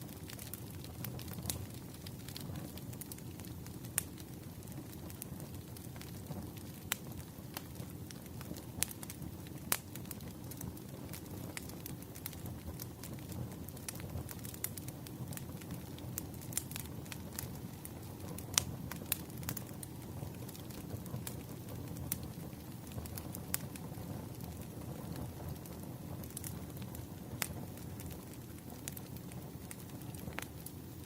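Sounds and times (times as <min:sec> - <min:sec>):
fire low rumble: 0:00.0 - 0:31.0
logs crackling and popping: 0:00.0 - 0:31.0.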